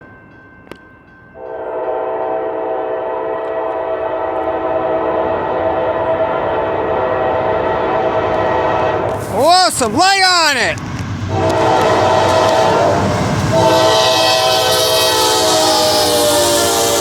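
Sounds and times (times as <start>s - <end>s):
locomotive air horn blast: 1.7s - 10.0s, 11.3s - 17.0s.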